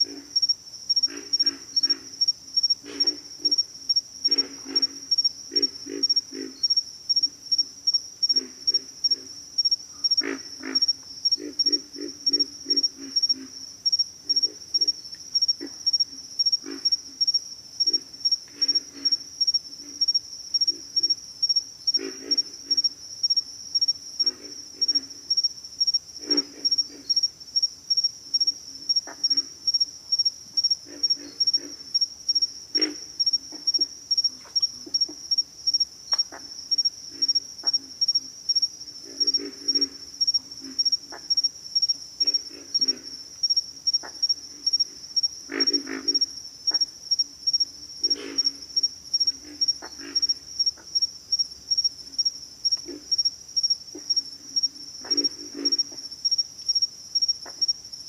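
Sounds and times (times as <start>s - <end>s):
frogs grunting: 0.0s - 57.8s.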